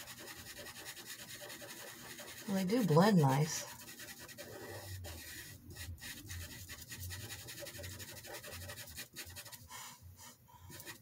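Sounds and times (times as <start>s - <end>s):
pastel pencil scratching paper: 0.0s - 11.0s.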